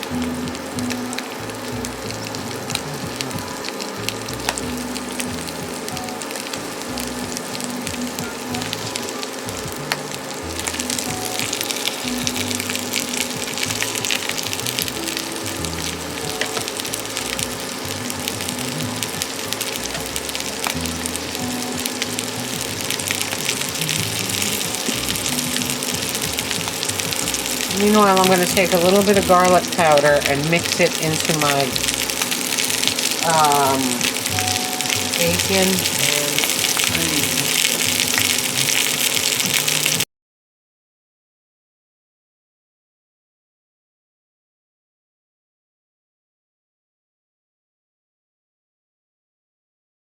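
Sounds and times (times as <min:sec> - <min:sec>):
background music with slow bass: 0:00.0 - 0:40.1
sausages sizzling in a pan: 0:00.0 - 0:40.1.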